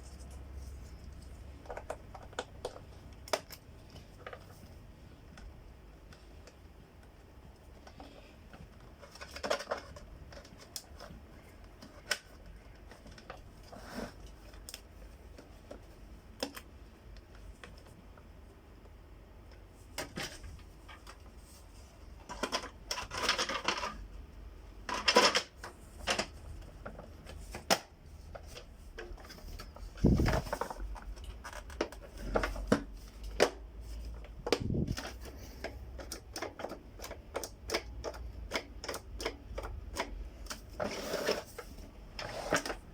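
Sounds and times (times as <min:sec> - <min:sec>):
plastic parts clicking and scraping: 0:00.0 - 0:42.9.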